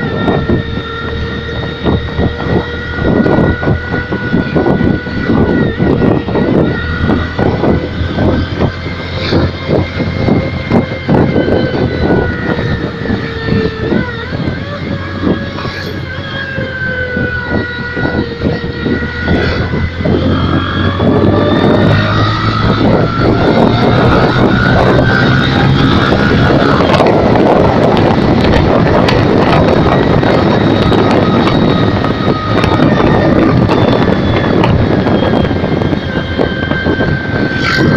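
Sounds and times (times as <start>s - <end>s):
motorcycle engine pulses: 0.0s - 37.9s
simulated racing engine whine: 0.0s - 37.9s.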